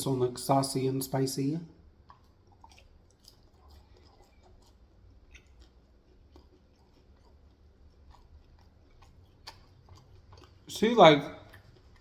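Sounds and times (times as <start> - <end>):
low steady hum: 0.0 - 12.0
chewing and mouth clicks: 1.8 - 12.0.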